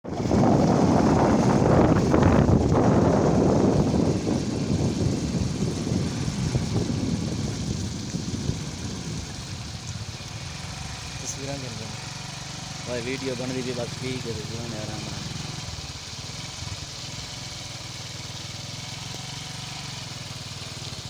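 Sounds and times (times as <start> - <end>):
heavy vehicle engine rumbling: 0.1 - 18.3.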